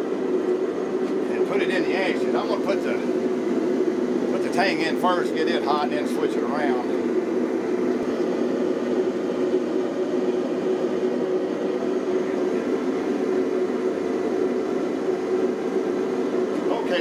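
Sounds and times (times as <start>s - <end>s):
gas forge burner rushing: 0.0s - 17.0s.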